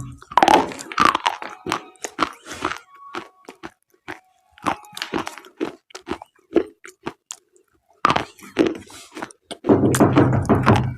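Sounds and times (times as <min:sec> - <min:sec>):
crisp crunching bites: 0:00.0 - 0:09.7.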